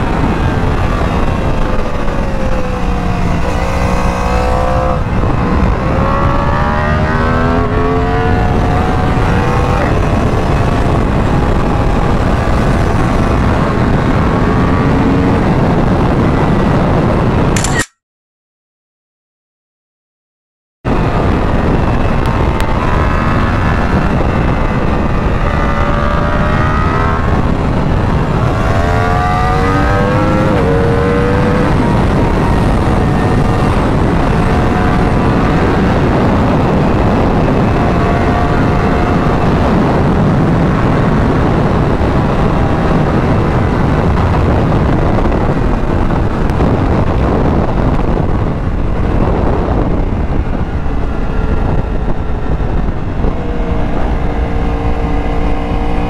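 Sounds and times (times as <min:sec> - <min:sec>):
motorcycle engine running hard: 0:00.0 - 0:17.7, 0:20.9 - 0:56.0
heavy wind rush: 0:00.0 - 0:17.9, 0:20.8 - 0:56.0.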